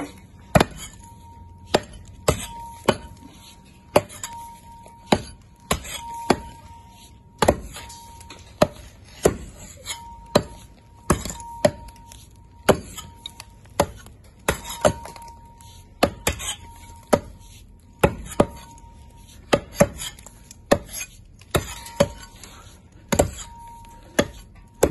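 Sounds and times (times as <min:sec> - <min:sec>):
pick and hammer striking stone: 0:00.0 - 0:24.9.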